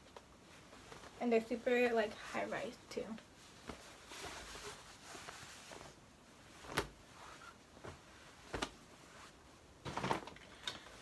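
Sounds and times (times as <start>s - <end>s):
fabric rustling: 0.1s - 11.0s
sharp fabric handling sounds: 0.4s - 10.4s.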